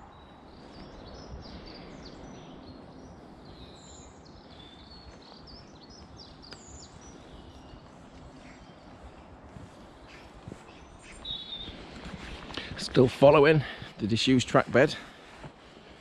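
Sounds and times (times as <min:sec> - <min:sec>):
background noise: 0:00.0 - 0:16.0
songbirds chirping: 0:00.0 - 0:16.0.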